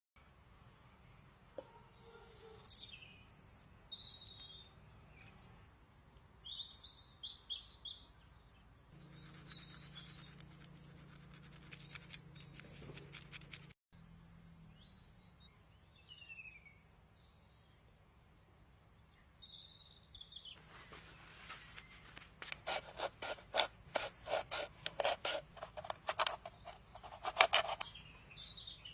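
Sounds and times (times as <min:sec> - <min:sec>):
small birds chirping: 0:01.6 - 0:18.0, 0:18.7 - 0:28.9.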